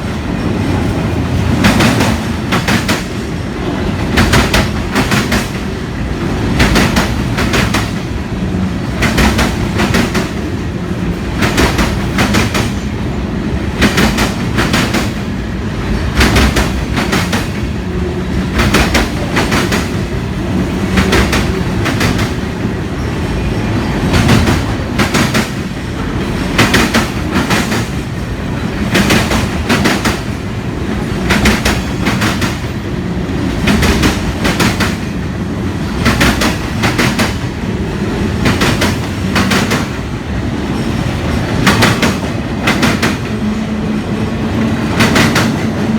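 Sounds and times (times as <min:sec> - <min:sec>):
freight cars rolling rumble: 0:00.0 - 0:45.9
wheels clacking over rail joints: 0:00.0 - 0:45.9.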